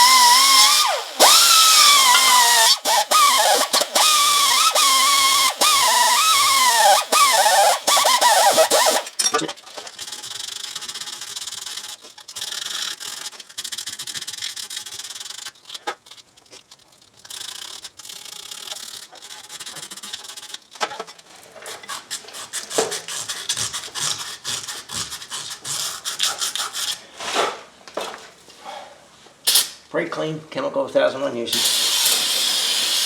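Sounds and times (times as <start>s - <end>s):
scraping and scrubbing corrosion: 0.0s - 27.1s.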